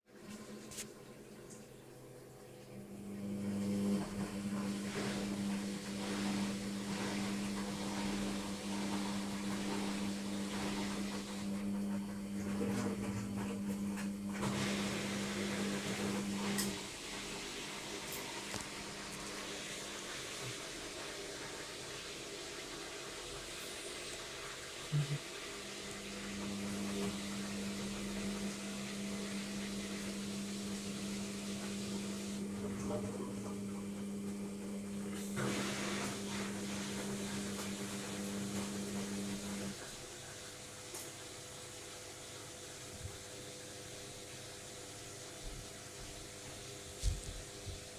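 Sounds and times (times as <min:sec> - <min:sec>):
washing machine humming: 0:00.0 - 0:47.9.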